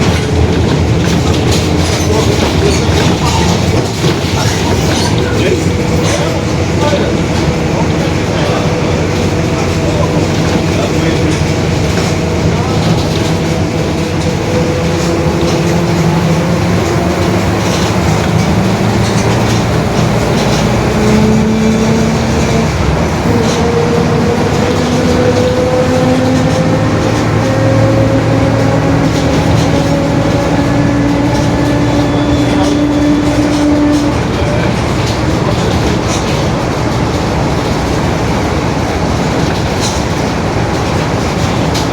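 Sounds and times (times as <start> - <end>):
bus differential whine: 0.0 - 41.9
rattling: 0.0 - 41.9
road noise: 0.0 - 41.9.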